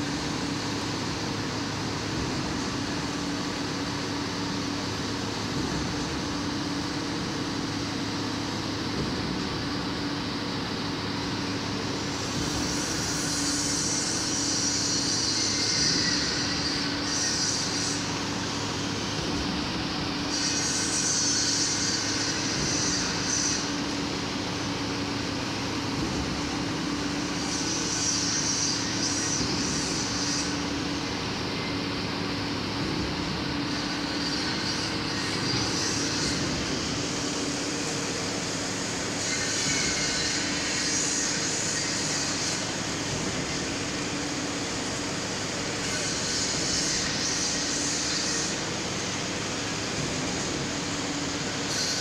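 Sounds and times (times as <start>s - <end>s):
construction machinery engine drone: 0.0s - 52.0s.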